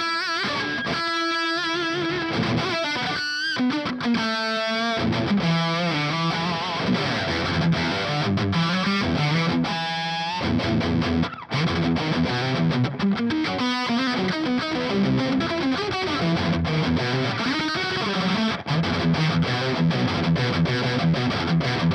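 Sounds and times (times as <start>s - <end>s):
distorted electric guitar riffing: 0.0s - 21.9s.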